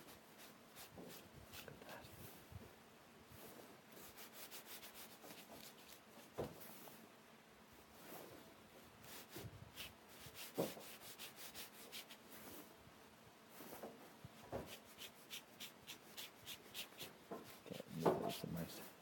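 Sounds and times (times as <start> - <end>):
paintbrush strokes on paper: 0.0 - 2.5, 3.3 - 7.0, 7.8 - 12.8, 13.5 - 19.0.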